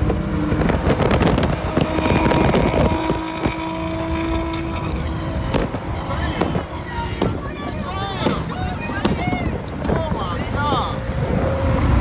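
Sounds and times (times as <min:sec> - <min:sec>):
car engine: 0:00.0 - 0:12.0
road noise: 0:00.0 - 0:12.0
wind noise: 0:00.0 - 0:12.0.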